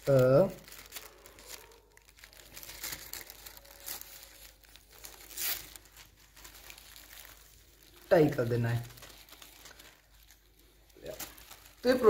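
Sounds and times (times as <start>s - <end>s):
thin sheet crinkling: 0.0s - 12.0s.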